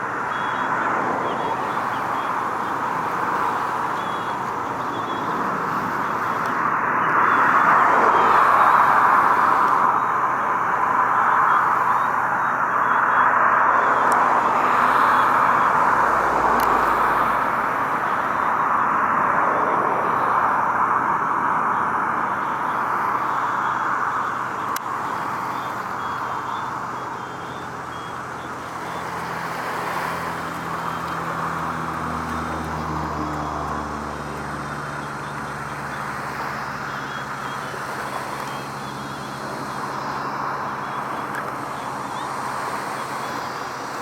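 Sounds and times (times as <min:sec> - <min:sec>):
low engine drone: 0:00.0 - 0:44.0
road traffic hum: 0:00.0 - 0:44.0.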